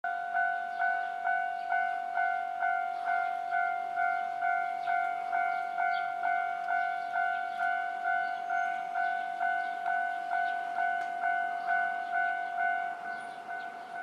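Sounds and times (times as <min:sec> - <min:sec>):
level crossing warning bell: 0:00.1 - 0:14.0.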